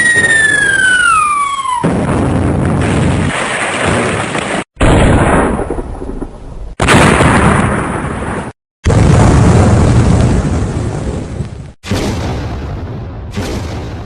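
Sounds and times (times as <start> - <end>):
booming blasts with rumble: 0.0 - 14.0.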